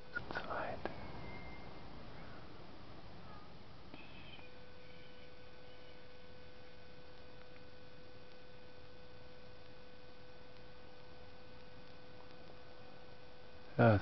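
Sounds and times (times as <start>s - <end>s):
constant hiss: 0.0s - 14.0s
steady tonal hum: 0.0s - 14.0s.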